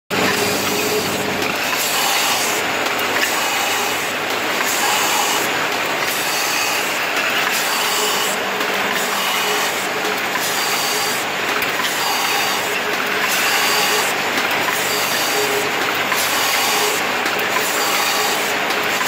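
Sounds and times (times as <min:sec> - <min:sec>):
machine running mechanically: 0:00.1 - 0:19.0.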